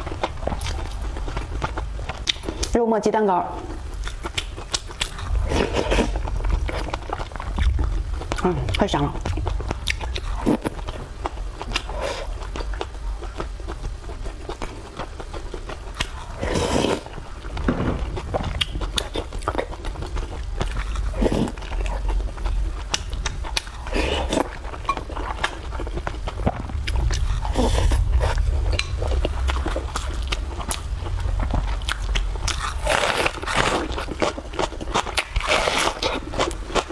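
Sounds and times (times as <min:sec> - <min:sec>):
person chewing food: 0:00.0 - 0:02.8, 0:03.6 - 0:36.9
steady low rumble: 0:00.0 - 0:02.8, 0:03.4 - 0:36.9.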